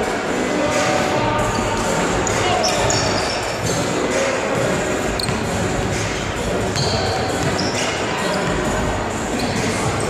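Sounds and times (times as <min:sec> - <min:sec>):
crowd chatter echoing: 0:00.0 - 0:10.0
sneakers squeaking on floor: 0:01.5 - 0:10.0.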